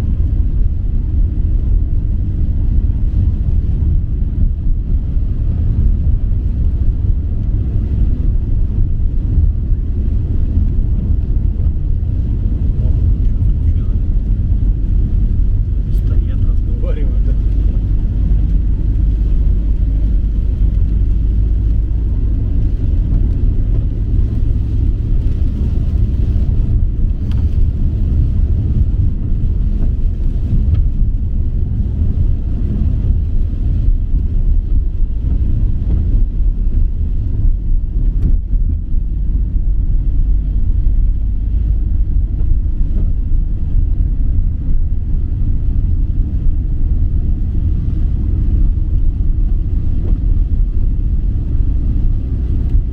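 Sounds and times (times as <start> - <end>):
vehicle engine rumble: 0.0 - 52.9.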